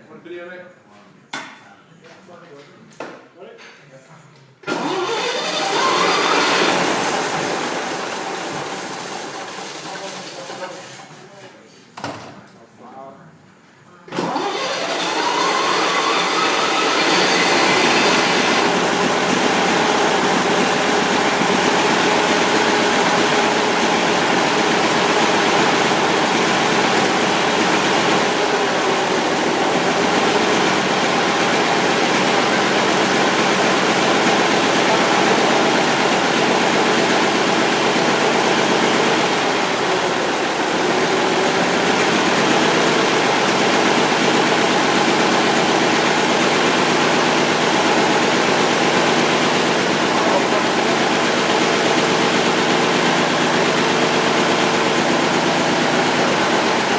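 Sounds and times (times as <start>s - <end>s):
diesel engine running: 4.7s - 10.3s, 14.2s - 56.9s.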